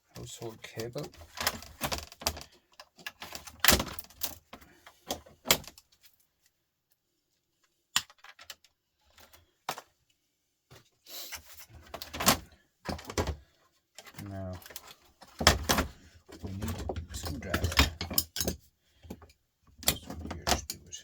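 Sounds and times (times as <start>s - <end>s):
plastic and metal parts clattering: 0.2s - 6.4s, 7.6s - 10.0s, 10.7s - 21.0s.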